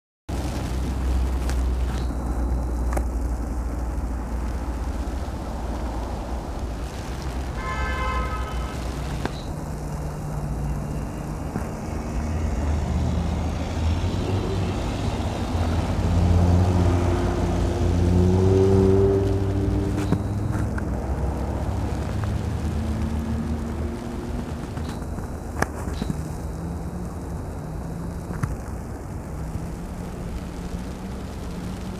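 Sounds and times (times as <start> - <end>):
road traffic: 0.3 - 31.9
vehicle engine: 0.3 - 31.9.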